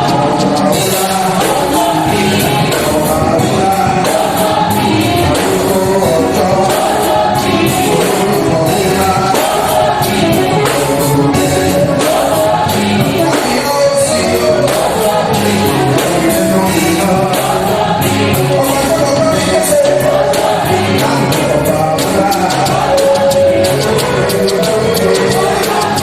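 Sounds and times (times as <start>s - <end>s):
band accompaniment: 0.0s - 26.0s
choir singing gospel: 0.0s - 26.0s
percussion beat: 0.0s - 26.0s.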